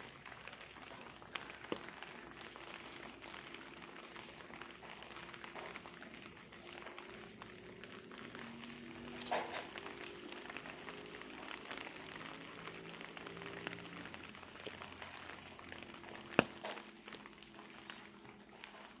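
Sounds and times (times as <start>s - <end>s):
rain dripping and pattering: 0.0s - 19.0s.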